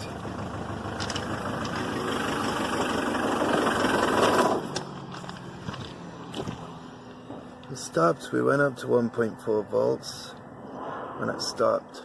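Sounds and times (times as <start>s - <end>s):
diesel engine starting and running: 0.0s - 12.0s.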